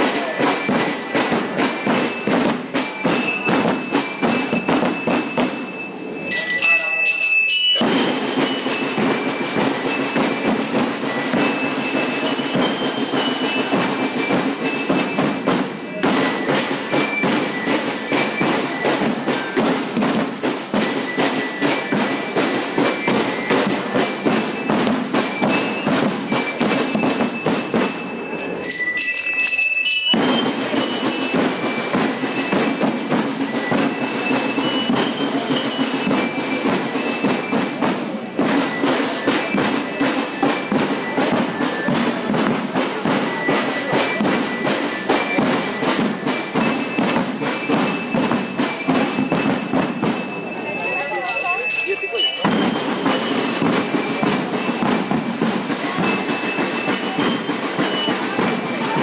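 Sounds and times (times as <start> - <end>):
bell-like metallophone notes: 0.0 - 59.0
marching drum strokes: 0.0 - 59.0.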